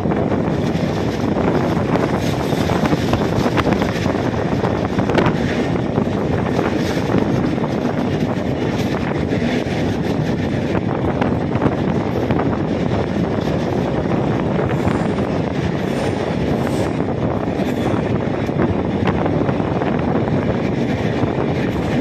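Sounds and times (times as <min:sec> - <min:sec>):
train wheels rumbling: 0:00.0 - 0:22.0
wind on microphone: 0:00.0 - 0:22.0.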